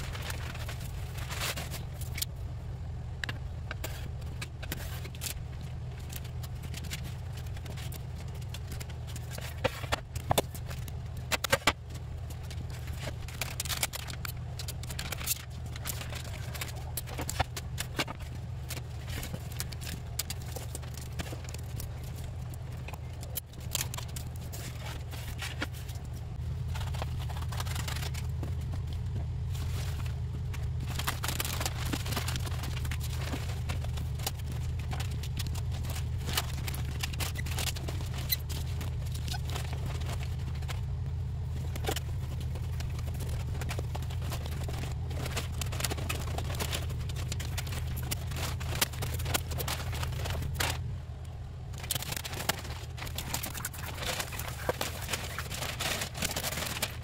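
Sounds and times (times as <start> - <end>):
steady low hum: 0.0 - 57.0
vinyl film crackling and rustling: 0.0 - 57.0.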